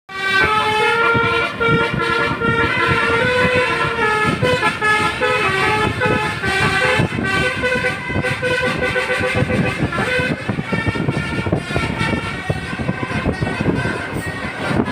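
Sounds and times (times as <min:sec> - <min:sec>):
musical bus horn melody: 0:00.1 - 0:14.9.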